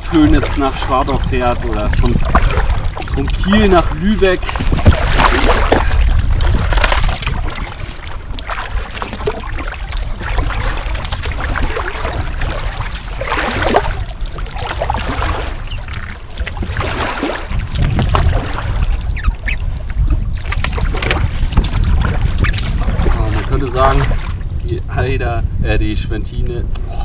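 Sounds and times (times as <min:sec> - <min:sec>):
paddle splashing in water: 0:00.0 - 0:24.7.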